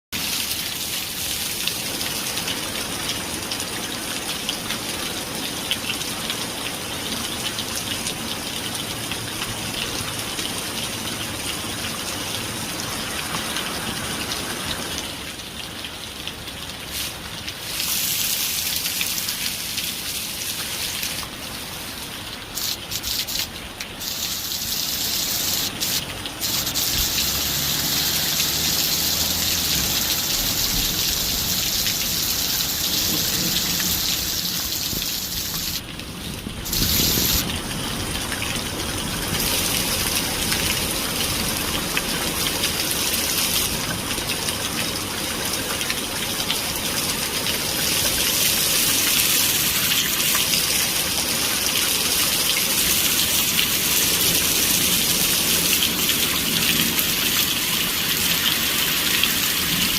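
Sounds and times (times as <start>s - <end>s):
rain falling: 0.2s - 59.9s.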